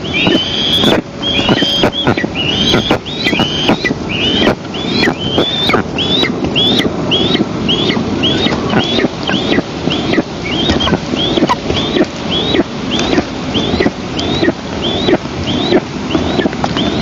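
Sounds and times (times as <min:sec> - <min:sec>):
eagle chick begging calls: 0:00.0 - 0:17.0
wind buffeting microphone: 0:00.0 - 0:17.0.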